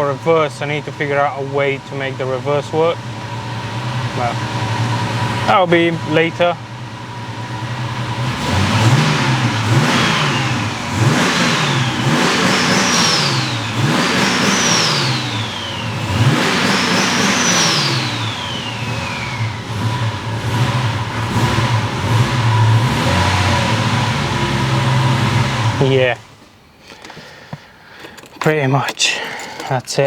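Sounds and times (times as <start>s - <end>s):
car engine revving: 0.0s - 26.5s.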